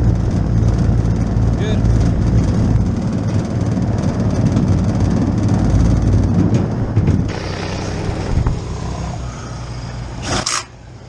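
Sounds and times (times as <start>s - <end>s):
hvac unit rumble and hum: 0.0s - 11.0s.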